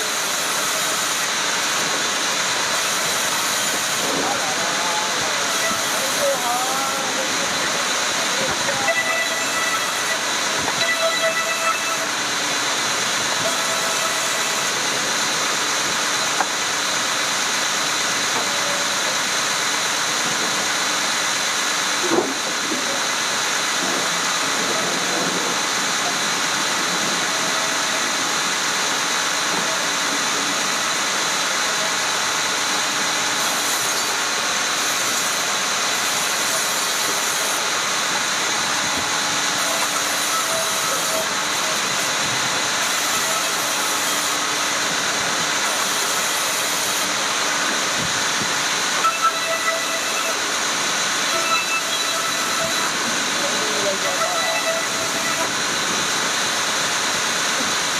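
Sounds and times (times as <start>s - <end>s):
woodworking machine whining hiss: 0.0s - 57.9s.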